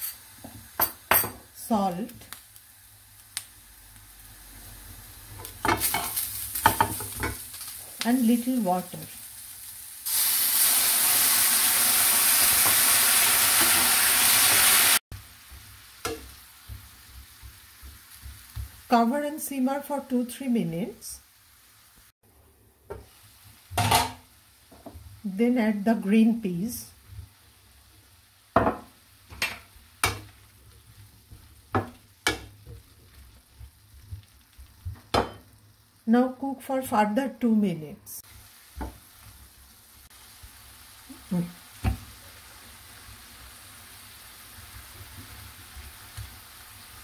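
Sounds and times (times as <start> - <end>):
oil sizzling in a pan: 0.0 - 47.0.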